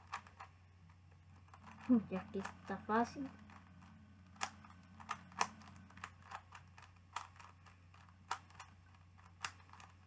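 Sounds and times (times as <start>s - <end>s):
puzzle cube faces clicking: 0.0s - 10.0s.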